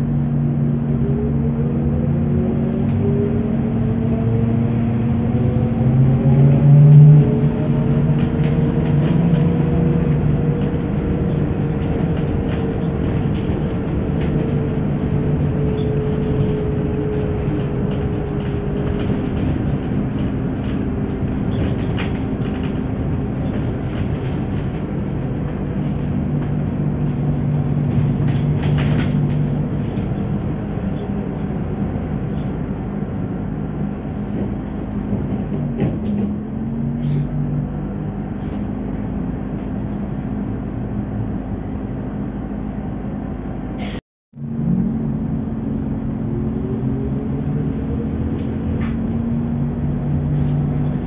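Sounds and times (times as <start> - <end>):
rumble with body rattles: 0.0 - 51.0
trolleybus motor hum and whine: 0.0 - 51.0.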